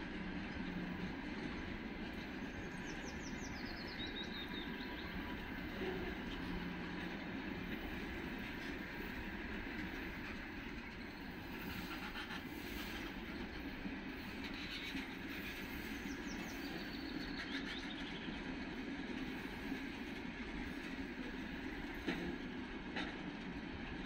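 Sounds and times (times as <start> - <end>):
train wheels clattering on rails: 0.0 - 24.0.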